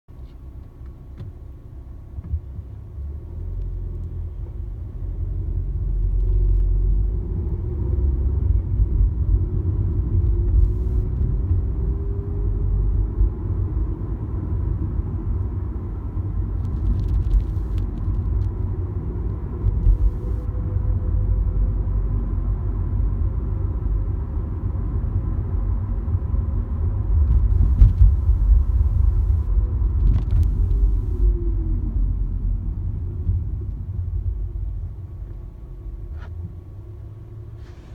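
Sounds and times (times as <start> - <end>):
road and engine rumble: 0.1 - 37.9.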